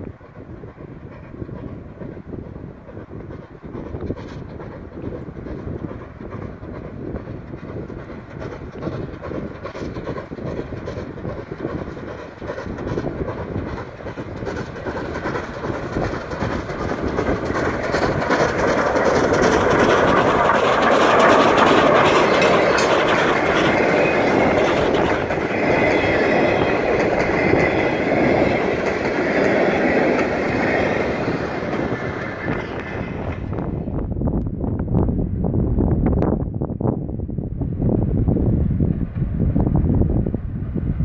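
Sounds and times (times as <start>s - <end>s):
steam locomotive passing: 0.0s - 35.4s.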